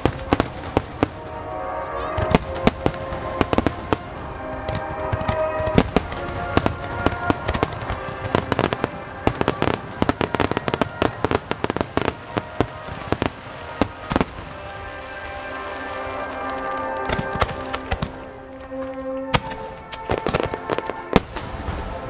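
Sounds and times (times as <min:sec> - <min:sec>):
music with held tones: 0:00.0 - 0:22.0.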